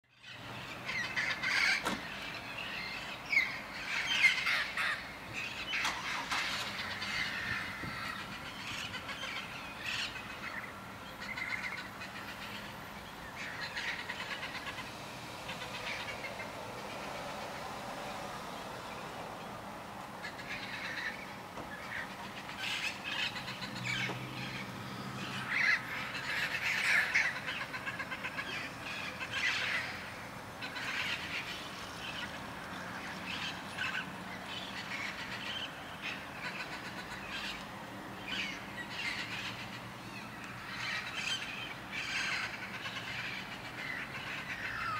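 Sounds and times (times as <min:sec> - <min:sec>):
parrots calling: 0:00.2 - 0:17.2, 0:20.2 - 0:37.6, 0:38.2 - 0:44.9.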